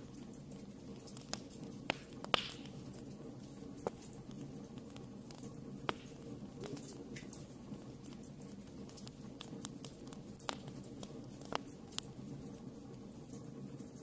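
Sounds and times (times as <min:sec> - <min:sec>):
fire crackling and popping: 0:00.0 - 0:14.0
flames rumbling: 0:00.0 - 0:14.0.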